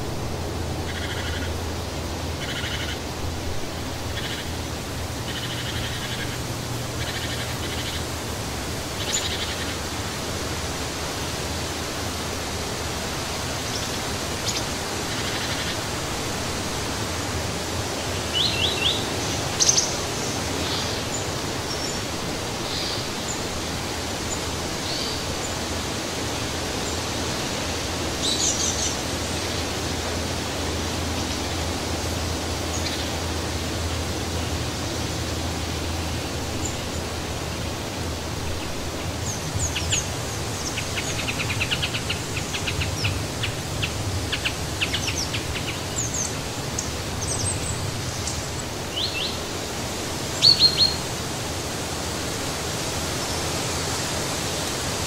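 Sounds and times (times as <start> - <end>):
wind rushing through trees: 0.0 - 55.0.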